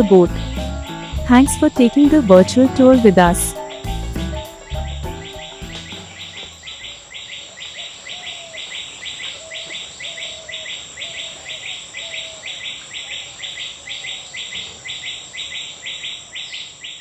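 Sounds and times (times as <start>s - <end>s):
pulsing insect trill: 0.0s - 17.0s
high insect whine: 3.1s - 17.0s.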